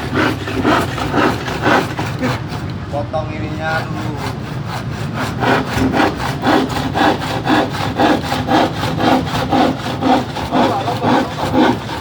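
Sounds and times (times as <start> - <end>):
hand saw cutting wood: 0.0 - 2.9, 3.5 - 12.0.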